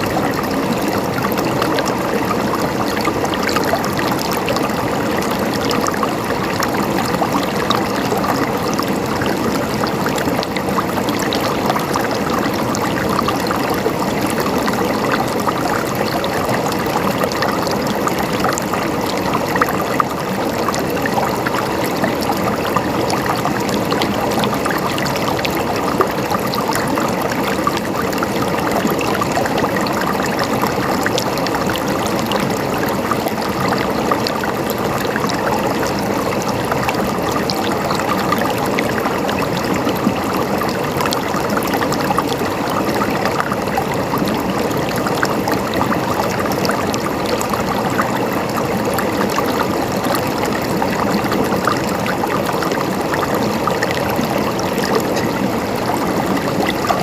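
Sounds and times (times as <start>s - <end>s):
running water gurgling and splashing: 0.0s - 57.0s.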